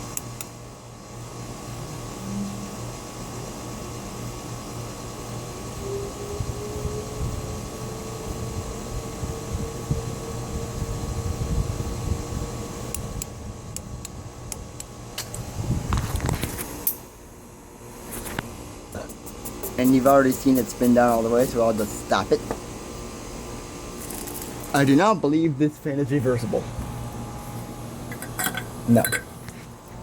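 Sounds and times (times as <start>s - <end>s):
ceiling fan motor hum: 0.0s - 30.0s
fan whine rising in pitch: 0.6s - 30.0s.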